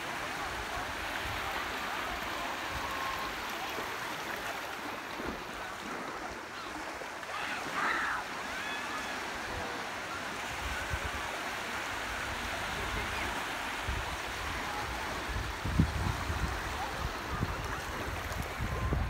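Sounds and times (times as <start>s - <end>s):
small waves breaking: 0.0s - 19.0s.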